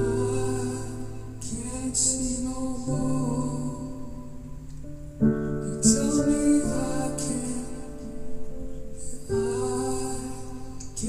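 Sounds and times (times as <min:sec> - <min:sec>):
song with held chords: 0:00.0 - 0:11.0.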